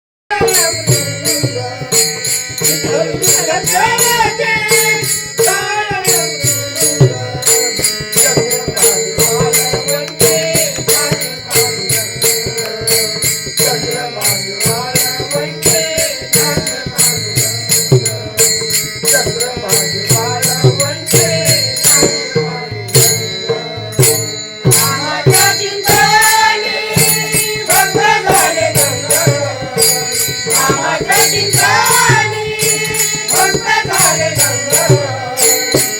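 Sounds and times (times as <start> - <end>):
person singing a melody: 0.3 - 23.0, 24.6 - 35.9
fast rhythmic percussion: 0.3 - 35.9.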